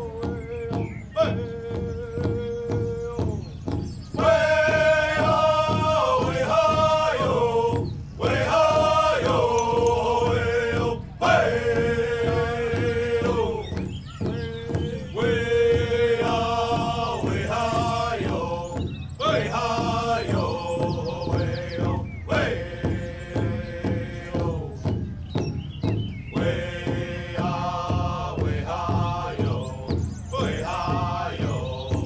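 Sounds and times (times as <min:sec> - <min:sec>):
men chanting: 0:00.0 - 0:32.0
steady drumbeat: 0:00.0 - 0:32.0.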